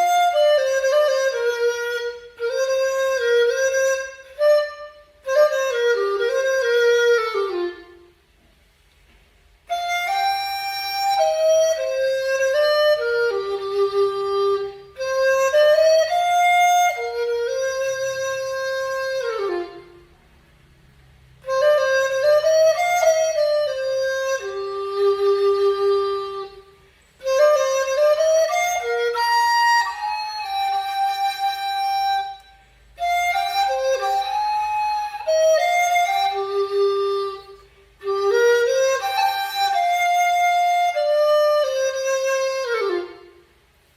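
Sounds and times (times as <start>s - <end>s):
bamboo flute melody: 0.0s - 8.6s, 9.5s - 20.6s, 21.2s - 43.9s.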